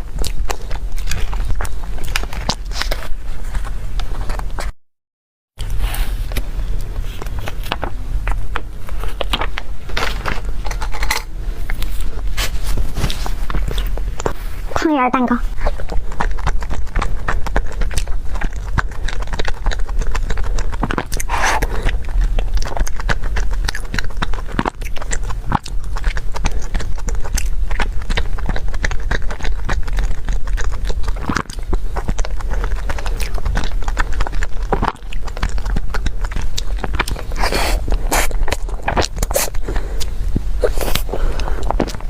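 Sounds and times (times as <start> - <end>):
chewing and biting: 0.0 - 4.7, 5.6 - 14.5, 15.5 - 42.0
steady low hum: 0.0 - 4.8, 5.6 - 42.0.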